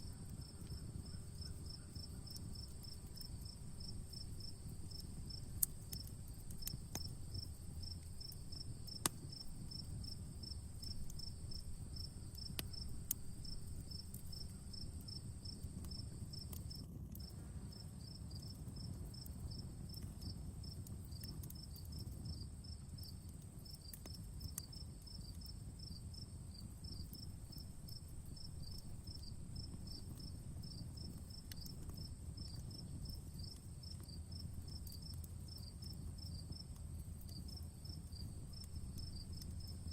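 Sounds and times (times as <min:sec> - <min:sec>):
crickets chirping: 0:00.0 - 0:20.0, 0:24.6 - 0:39.9
wood fire crackling: 0:00.0 - 0:39.9.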